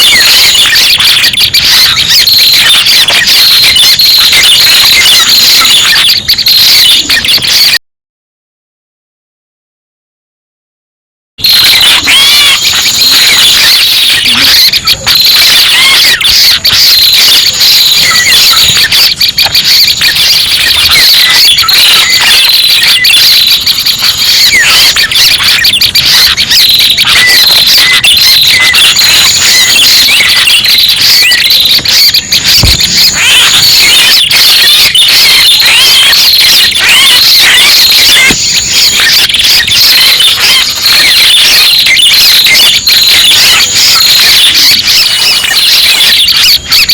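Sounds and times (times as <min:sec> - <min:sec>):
bird chirps and trills: 0:00.0 - 0:07.7, 0:11.7 - 0:42.0.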